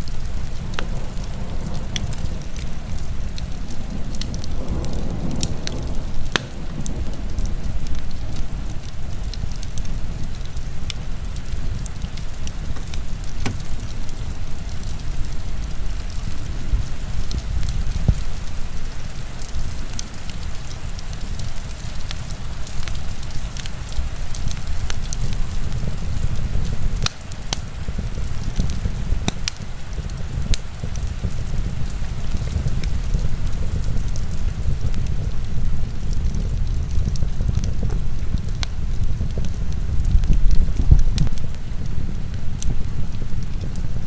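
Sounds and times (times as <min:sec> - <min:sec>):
heavy rain: 0:00.0 - 0:44.0
wood fire crackling: 0:00.0 - 0:44.0.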